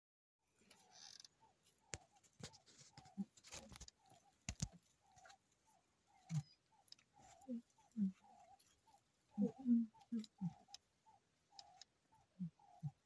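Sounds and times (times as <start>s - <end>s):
bird calling: 0.6s - 13.0s.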